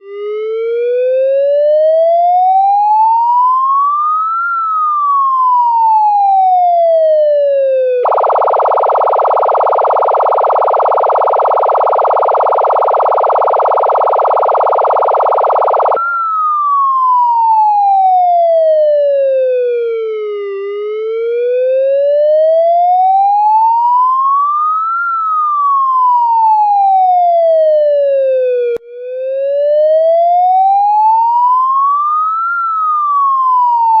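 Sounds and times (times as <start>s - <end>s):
harsh buzzing siren tone: 0.0s - 34.0s
siren wailing: 0.0s - 34.0s.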